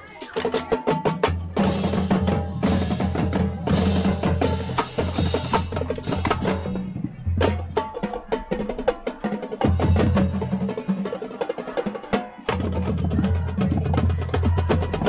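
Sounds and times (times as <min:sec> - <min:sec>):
drums and percussion: 0:00.0 - 0:15.0
marching band playing: 0:00.0 - 0:15.0.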